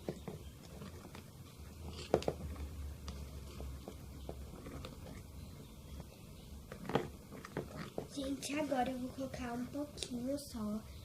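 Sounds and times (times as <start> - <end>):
slime being stirred: 0.0 - 10.2.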